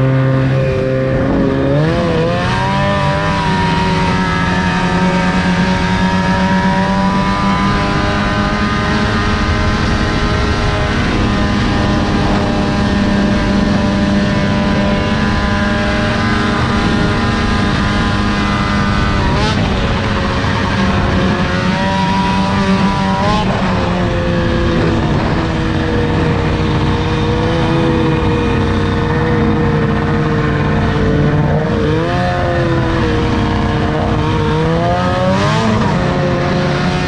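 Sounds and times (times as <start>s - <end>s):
snowmobile engine: 0.0s - 37.0s.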